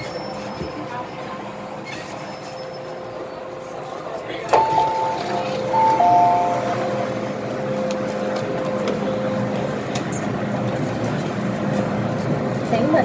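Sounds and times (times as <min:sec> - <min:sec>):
train hum at a station: 0:00.0 - 0:13.0.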